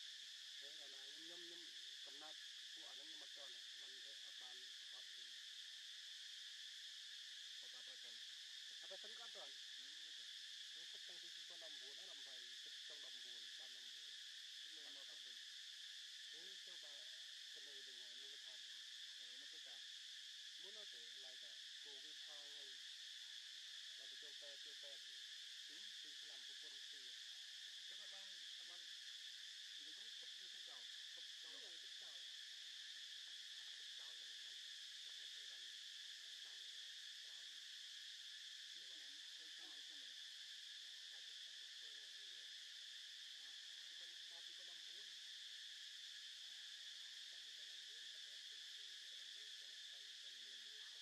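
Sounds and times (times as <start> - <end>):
insects chorus: 0.0 - 51.0.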